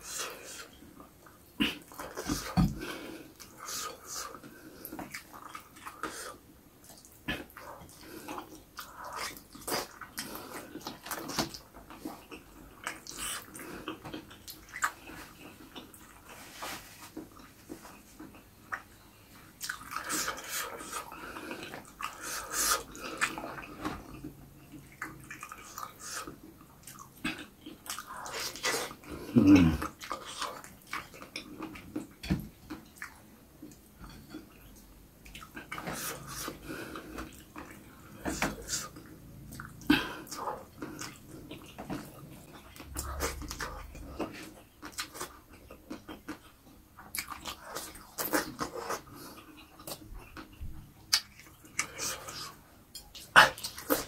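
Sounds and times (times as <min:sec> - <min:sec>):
chewing: 0:00.0 - 0:54.0.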